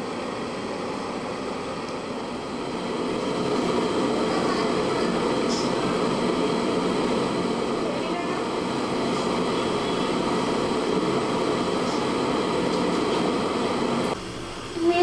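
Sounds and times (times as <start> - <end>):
gas stove burner rushing: 0.0 - 15.0.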